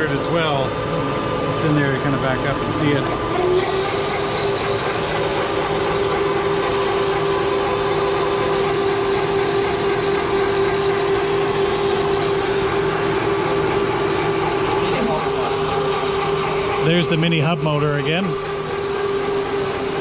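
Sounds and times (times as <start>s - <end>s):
electric motors humming: 0.0s - 20.0s
held whining tone: 0.0s - 20.0s.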